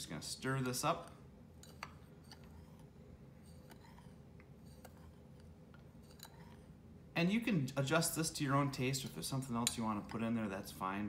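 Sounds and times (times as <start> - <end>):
quiet room hum: 0.0 - 11.0.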